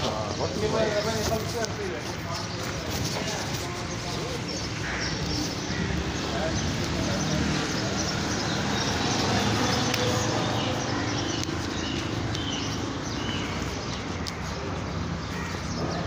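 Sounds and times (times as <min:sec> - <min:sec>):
bird calls: 0:00.0 - 0:16.0.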